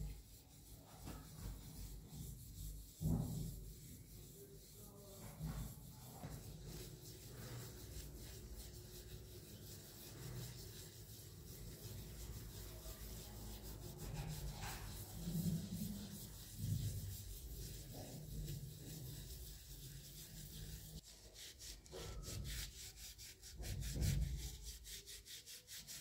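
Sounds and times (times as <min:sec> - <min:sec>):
cloth rubbing brass vase: 0:00.0 - 0:26.0.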